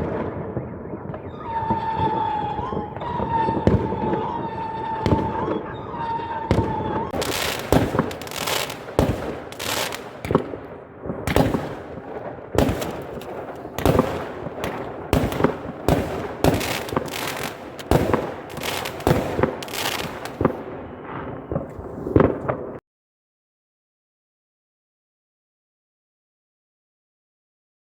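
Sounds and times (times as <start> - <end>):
fireworks bangs: 0.0 - 22.8.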